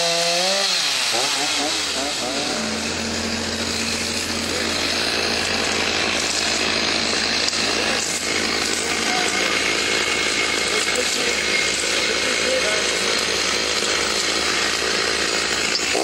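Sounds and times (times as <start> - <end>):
chainsaw running: 0.0 - 16.0.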